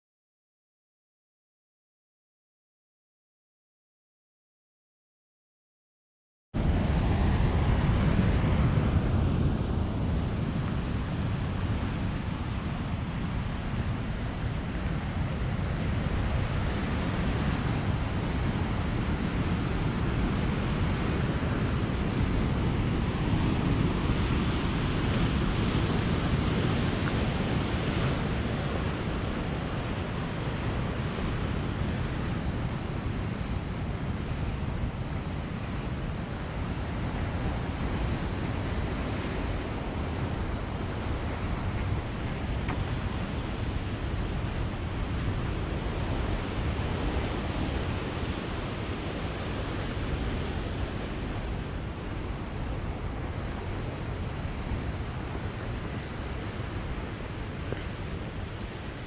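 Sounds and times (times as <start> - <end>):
ocean waves breaking: 6.6 - 59.0
wind rumbling on microphone: 6.6 - 59.0.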